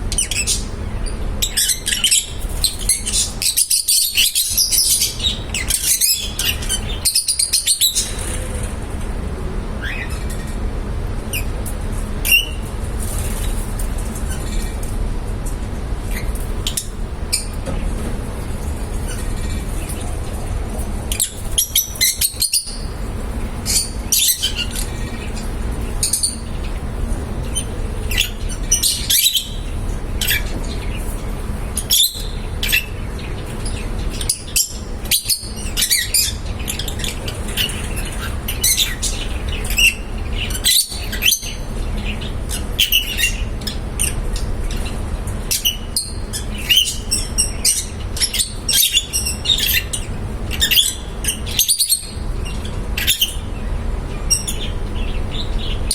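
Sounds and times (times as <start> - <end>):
birds chirping and squawking: 0.0 - 15.0, 16.1 - 55.9
low background hum: 0.0 - 55.9.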